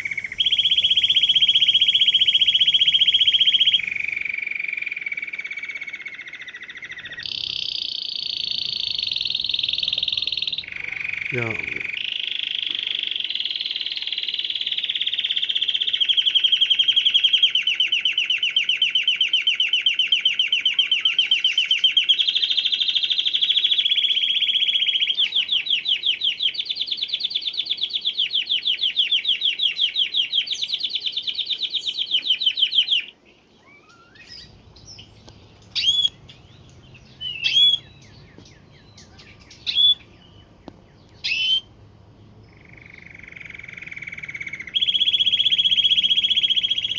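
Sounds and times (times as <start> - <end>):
canary trilling song: 0.0 - 46.9.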